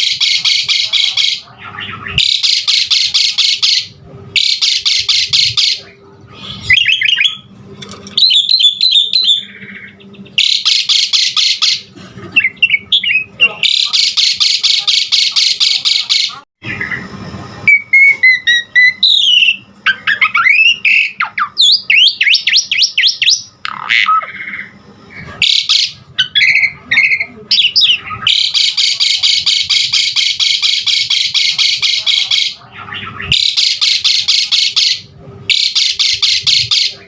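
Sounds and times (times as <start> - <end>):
starling singing: 0.0 - 7.5, 8.1 - 17.0, 17.7 - 24.8, 25.4 - 37.0.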